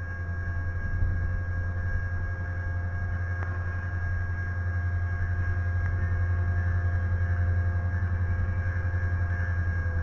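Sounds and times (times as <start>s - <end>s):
diesel locomotive drone: 0.0s - 10.0s
faint steady tones: 0.0s - 10.0s.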